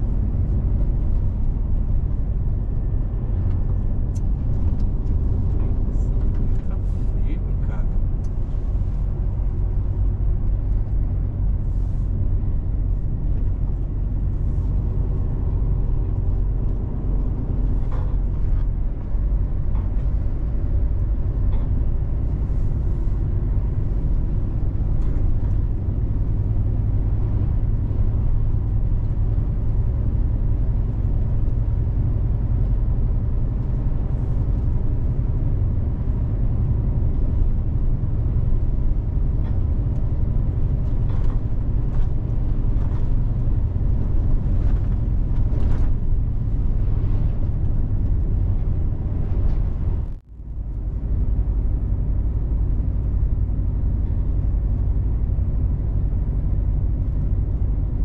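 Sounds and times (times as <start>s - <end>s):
truck diesel engine drone: 0.0s - 58.0s
tyre road noise: 0.0s - 58.0s.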